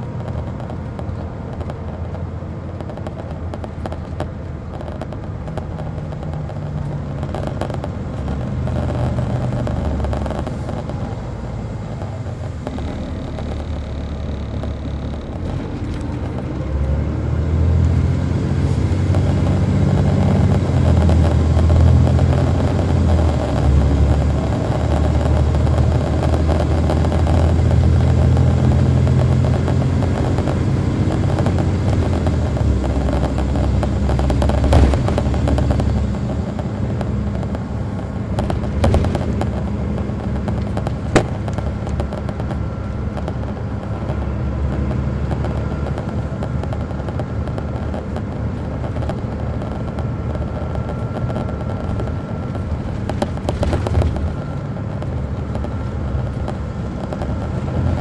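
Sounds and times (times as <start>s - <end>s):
diesel coach engine running: 0.0s - 58.0s
faint steady whine: 0.0s - 58.0s.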